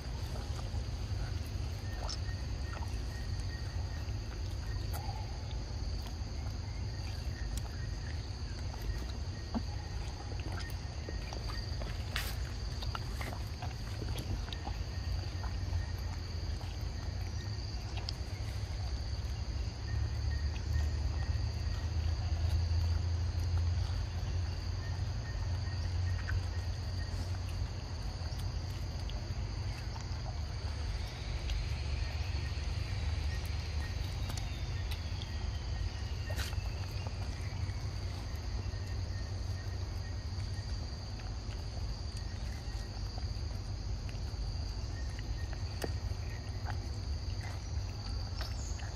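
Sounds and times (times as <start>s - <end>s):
high-pitched insect chorus: 0.0s - 48.9s.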